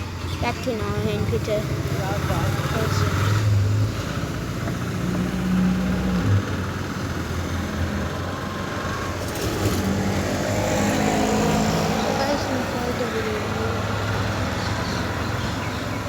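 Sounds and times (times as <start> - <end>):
vehicle engines humming: 0.0 - 16.0.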